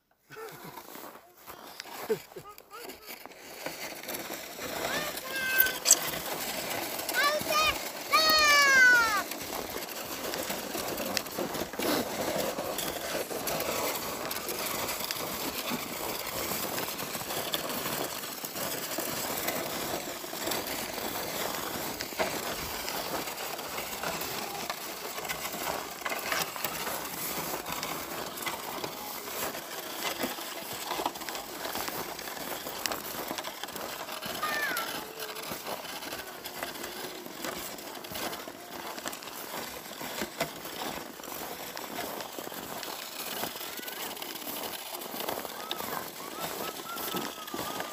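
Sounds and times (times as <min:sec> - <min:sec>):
plastic sled scraping on snow: 0:00.0 - 0:47.9
footsteps crunching on snow: 0:00.3 - 0:47.9.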